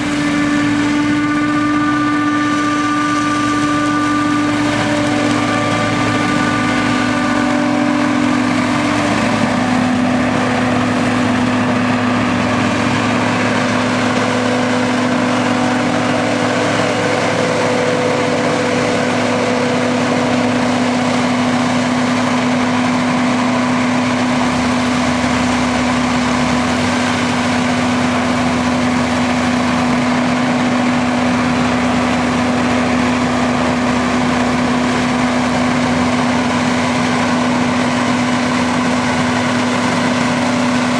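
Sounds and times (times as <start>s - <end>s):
dense mechanical noise: 0.0s - 40.9s
large diesel engine running: 0.0s - 40.9s.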